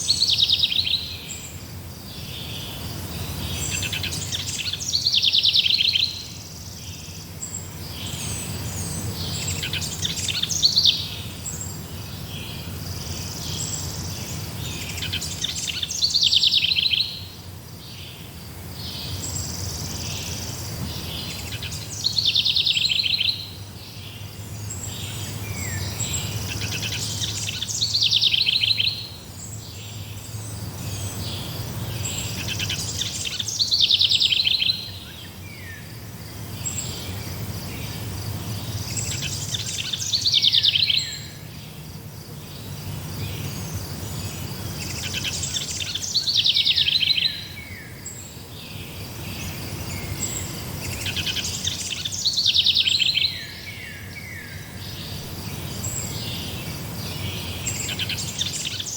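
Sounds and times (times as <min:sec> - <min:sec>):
low steady background noise: 0:00.0 - 0:58.9.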